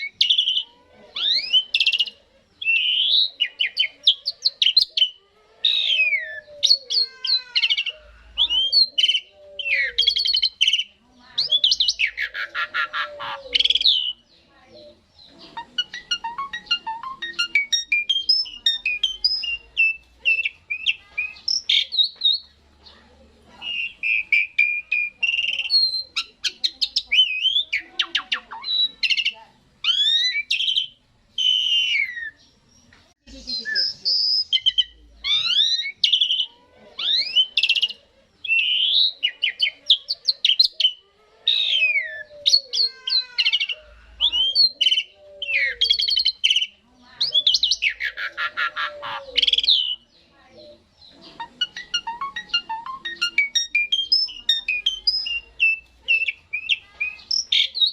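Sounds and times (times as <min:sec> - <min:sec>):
starling singing whistles and chatter: 0:00.0 - 0:57.9.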